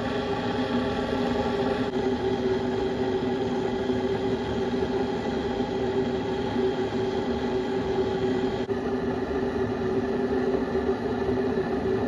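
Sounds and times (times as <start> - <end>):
electric kettle heating water: 0.0 - 12.0.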